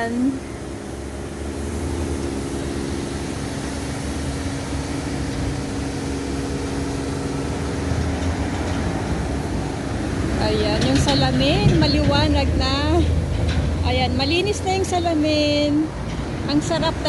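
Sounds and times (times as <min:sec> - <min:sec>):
car engine running: 0:00.0 - 0:14.4.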